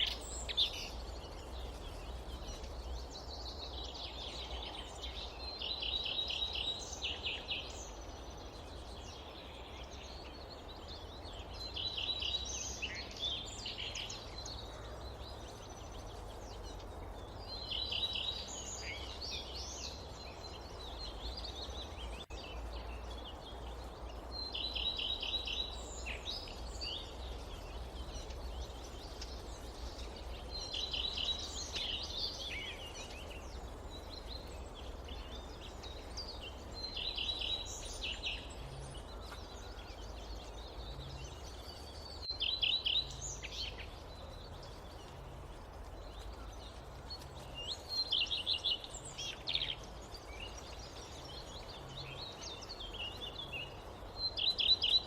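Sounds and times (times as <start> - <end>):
low forest rumble: 0.0 - 54.4
songbird singing: 0.0 - 55.0.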